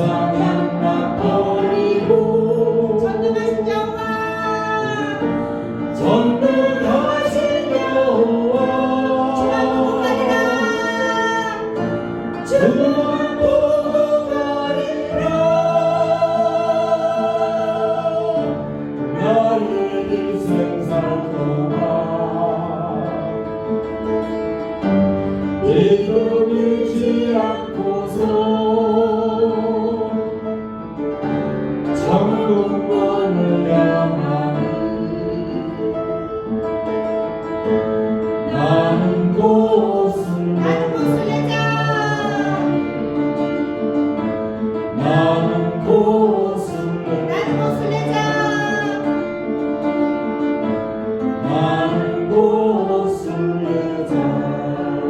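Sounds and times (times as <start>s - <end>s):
group singing gospel song: 0.0s - 55.0s
instrumental accompaniment: 0.0s - 55.0s.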